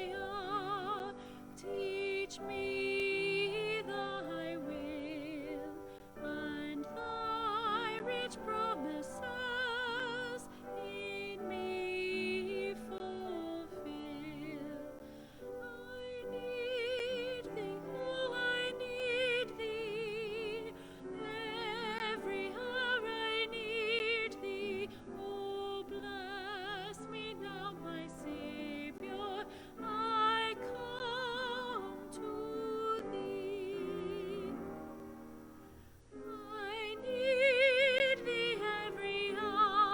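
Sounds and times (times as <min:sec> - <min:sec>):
person singing classical style: 0:00.0 - 0:39.9.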